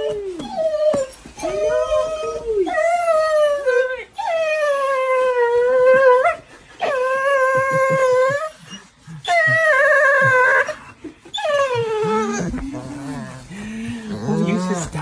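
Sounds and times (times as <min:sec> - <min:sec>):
dog whining and howling: 0:00.0 - 0:15.0.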